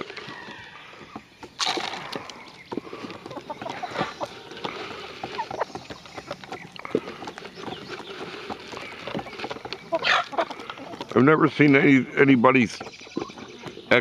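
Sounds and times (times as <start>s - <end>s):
beaks tapping on wood: 0.0s - 14.0s
chickens clucking: 0.0s - 14.0s.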